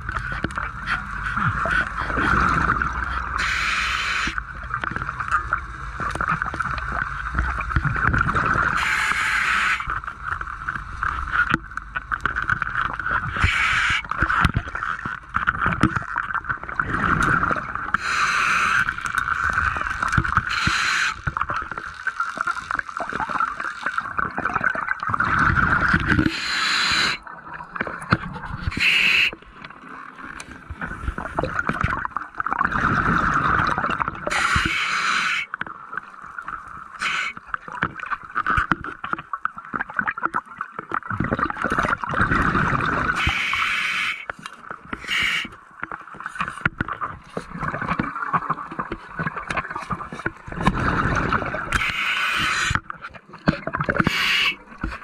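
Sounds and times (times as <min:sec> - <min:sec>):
muffled underwater bubbling: 0:00.0 - 0:55.0.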